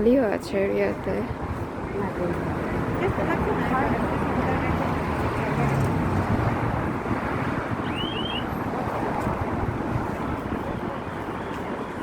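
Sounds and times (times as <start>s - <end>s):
street traffic: 0.0s - 12.0s
wind rumbling on microphone: 0.0s - 12.0s.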